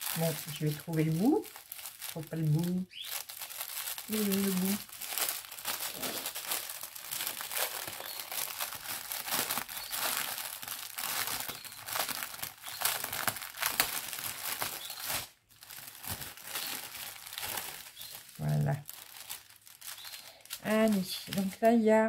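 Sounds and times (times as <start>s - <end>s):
plastic packaging crinkling: 0.0s - 21.8s.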